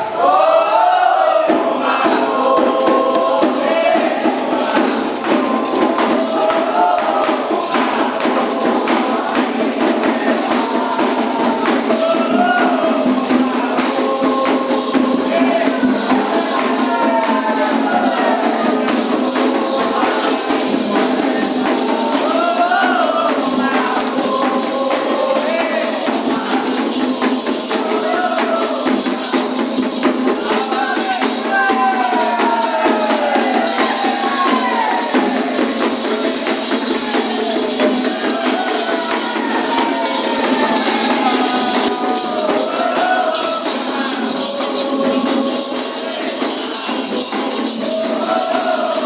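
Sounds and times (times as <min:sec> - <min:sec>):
fast dense percussion: 0:00.0 - 0:49.0
shaken jingling: 0:00.0 - 0:49.0
voices singing: 0:00.0 - 0:49.0.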